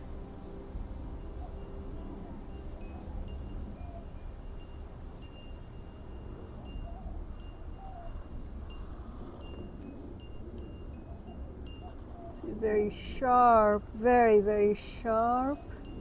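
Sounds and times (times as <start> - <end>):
wind chimes ringing: 0.0 - 16.0
wind rumble on microphone: 0.0 - 16.0.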